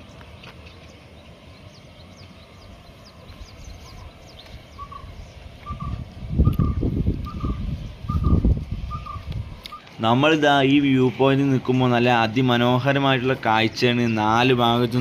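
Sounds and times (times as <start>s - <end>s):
birds chirping: 0.0s - 15.0s
low gusty rumble: 0.0s - 15.0s.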